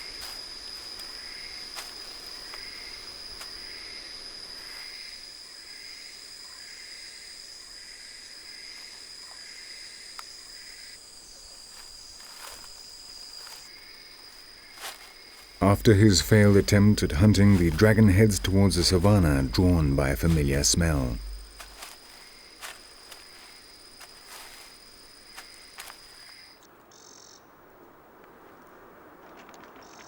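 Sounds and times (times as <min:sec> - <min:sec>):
insect chirping in pulses: 0:00.0 - 0:27.4.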